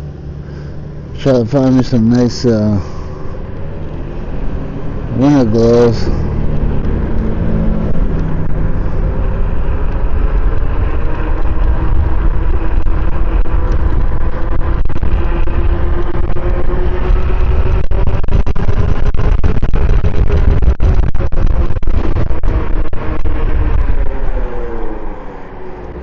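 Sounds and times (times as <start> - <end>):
wind buffeting microphone: 3.4 - 26.0.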